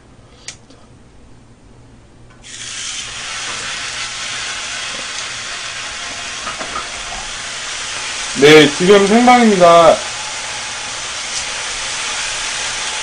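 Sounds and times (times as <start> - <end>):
meat sizzling on a griddle: 2.4 - 13.0.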